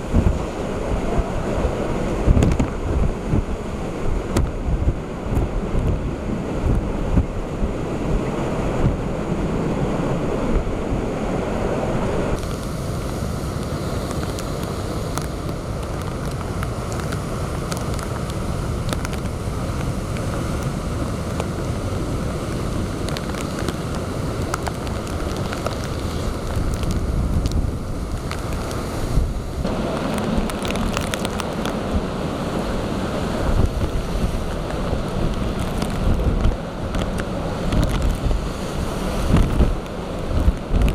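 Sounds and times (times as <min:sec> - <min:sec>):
strong wind buffeting microphone: 0:00.0 - 0:40.9
waves breaking: 0:00.0 - 0:40.9.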